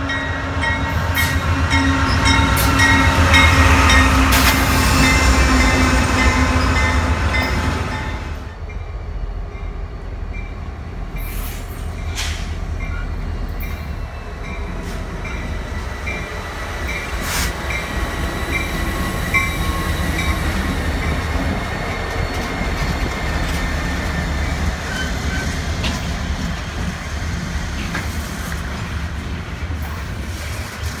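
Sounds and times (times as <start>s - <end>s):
diesel locomotive engines rumbling: 0.0s - 31.0s
train cars rolling: 0.0s - 31.0s.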